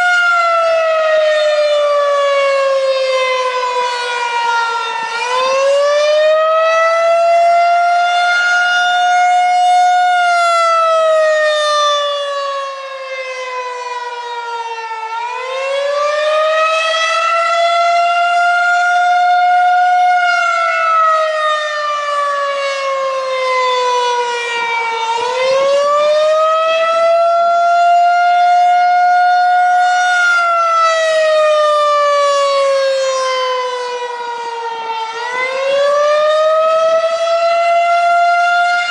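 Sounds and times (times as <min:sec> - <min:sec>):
rotating warning siren wailing: 0:00.0 - 0:38.9.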